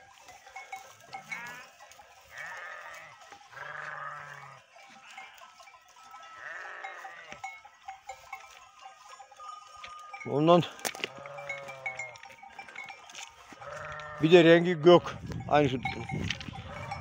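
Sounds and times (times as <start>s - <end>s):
sheep bleating: 0.7s - 7.5s, 9.8s - 17.0s.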